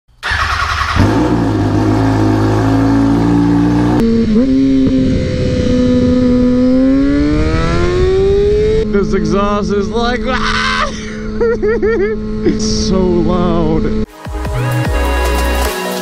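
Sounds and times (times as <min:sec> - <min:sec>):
motorcycle engine revving high: 0:00.2 - 0:14.1.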